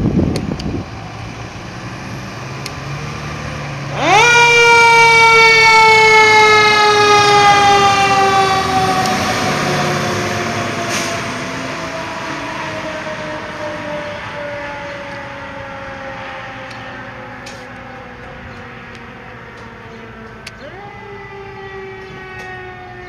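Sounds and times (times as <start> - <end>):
fire engine siren: 0.0 - 23.0.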